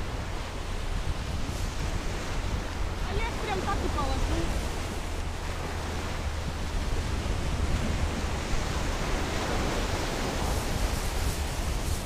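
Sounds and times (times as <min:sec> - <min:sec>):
sea surf on pebble beach: 0:00.0 - 0:12.0
wind on microphone: 0:00.0 - 0:12.0.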